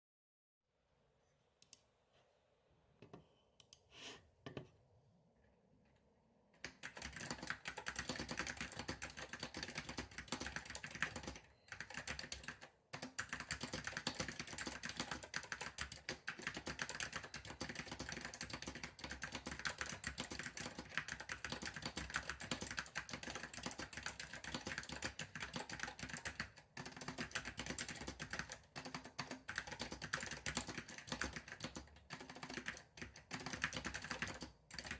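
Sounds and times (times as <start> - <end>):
keyboard typing: 6.6 - 34.9.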